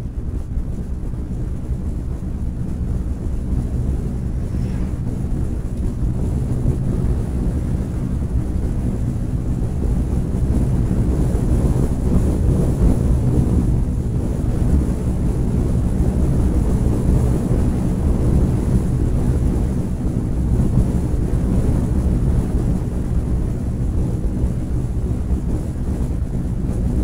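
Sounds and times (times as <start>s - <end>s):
car and tyres rumbling: 0.0s - 27.0s
wind buffeting microphone: 0.0s - 27.0s.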